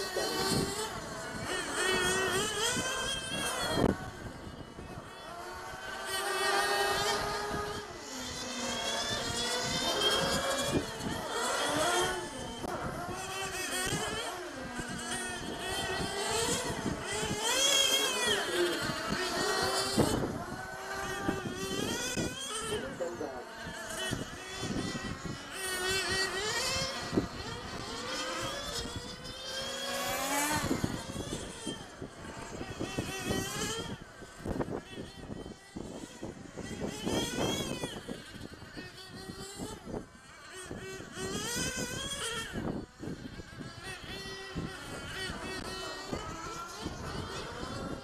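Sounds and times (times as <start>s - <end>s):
rc car engines revving: 0.0s - 48.0s.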